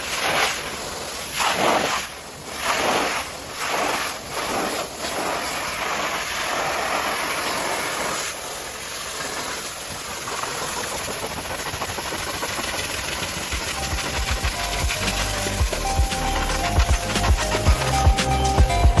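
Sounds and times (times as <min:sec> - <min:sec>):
pressure washer spray hissing: 0:00.0 - 0:11.7, 0:12.4 - 0:18.8.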